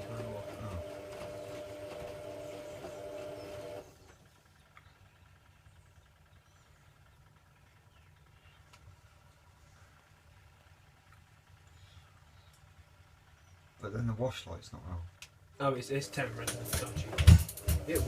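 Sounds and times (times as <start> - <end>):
faint low hum: 0.0 - 18.0
washing machine hum: 0.0 - 18.0.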